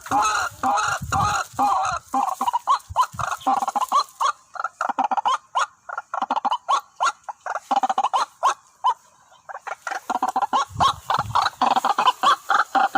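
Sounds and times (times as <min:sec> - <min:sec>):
waterhens calling: 0:00.0 - 0:12.9.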